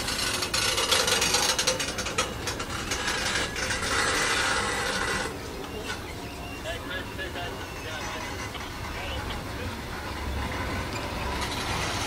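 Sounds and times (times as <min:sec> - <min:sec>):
railway carriages clattering: 0:00.0 - 0:12.0.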